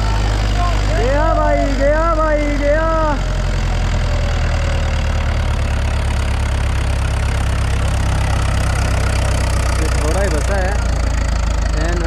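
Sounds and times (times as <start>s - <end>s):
diesel tractor engine under load: 0.0s - 12.0s
wheels churning sand: 0.0s - 12.0s.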